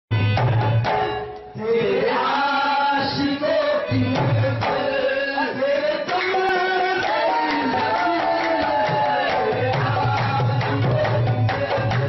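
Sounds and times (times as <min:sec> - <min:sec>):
voices singing: 0:01.6 - 0:12.0.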